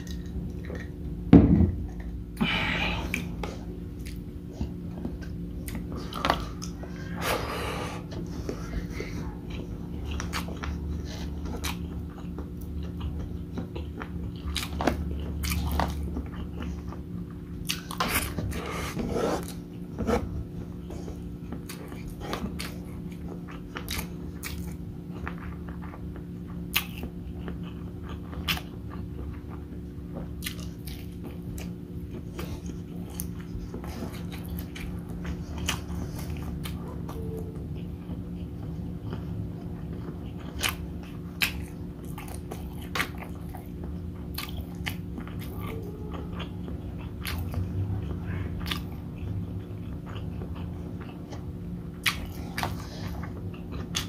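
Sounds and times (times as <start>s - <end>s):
man chewing and mouth sounds: 0.0s - 54.0s
steady low hum: 0.0s - 54.0s.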